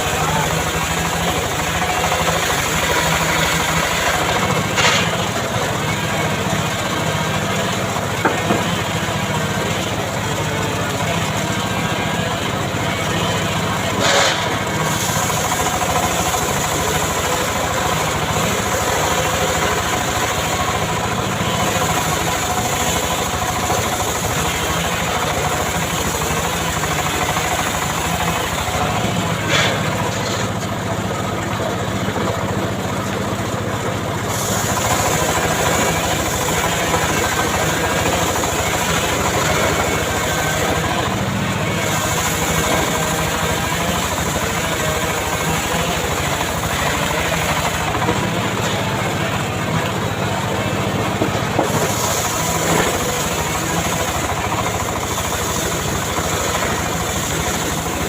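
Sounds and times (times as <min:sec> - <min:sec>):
chainsaw engine running: 0:00.0 - 0:58.0.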